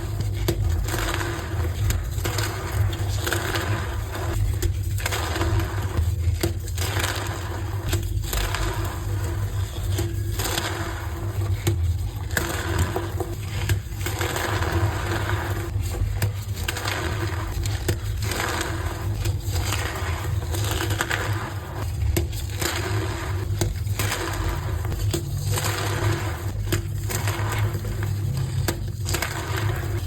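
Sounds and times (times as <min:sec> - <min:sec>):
chalk blocks crunching: 0:00.0 - 0:30.0.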